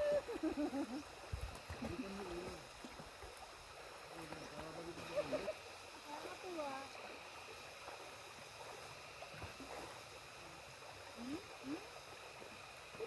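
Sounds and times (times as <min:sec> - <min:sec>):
river running over stones: 0:00.0 - 0:13.0.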